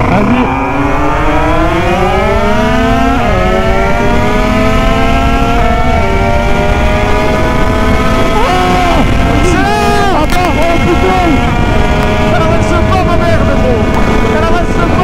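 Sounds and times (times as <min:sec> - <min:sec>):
two-stroke engine at full throttle: 0:00.0 - 0:15.0
wind rumble: 0:00.0 - 0:15.0.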